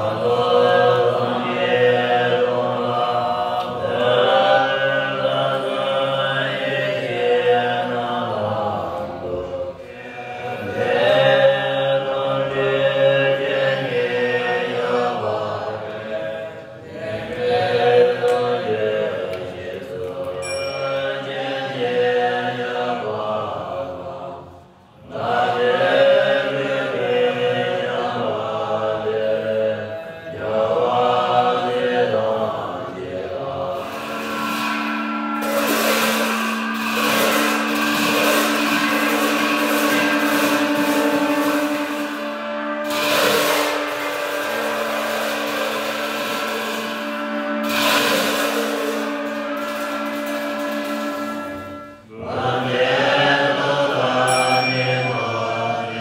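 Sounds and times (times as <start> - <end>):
monks chanting in low voices: 0.0 - 56.0.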